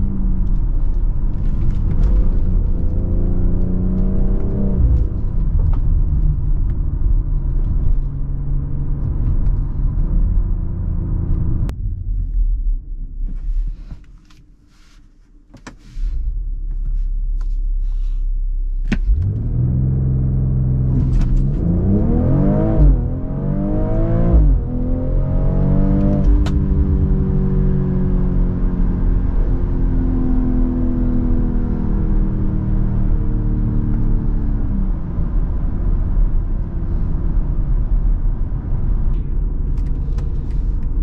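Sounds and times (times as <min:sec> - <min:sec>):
car engine accelerating and upshifting: 0:00.0 - 0:11.7, 0:18.9 - 0:41.0.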